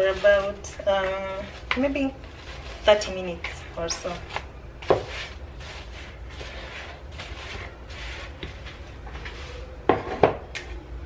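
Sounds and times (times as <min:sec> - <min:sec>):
soft scraping and rustling: 0:00.0 - 0:10.2.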